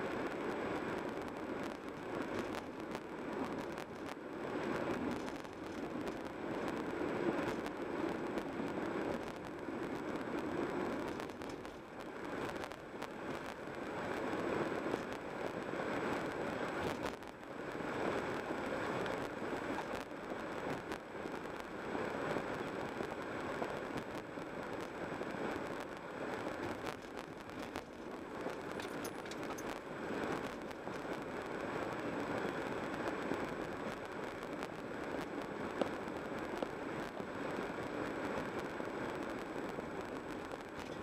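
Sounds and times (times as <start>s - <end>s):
car road and engine noise: 0.0s - 41.0s.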